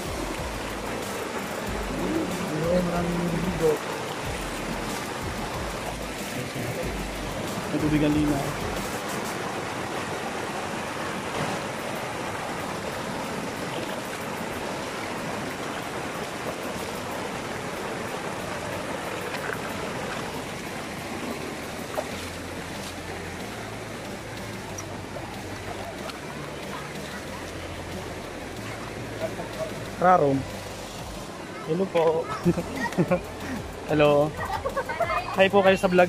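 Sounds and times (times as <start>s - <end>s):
stream rushing over boulders: 0.0s - 36.0s.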